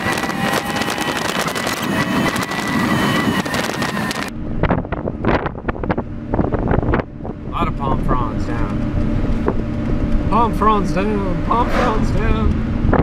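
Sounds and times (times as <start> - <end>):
high whine: 0.0 - 13.0
low engine hum: 0.0 - 13.0
wind and road noise: 0.0 - 13.0.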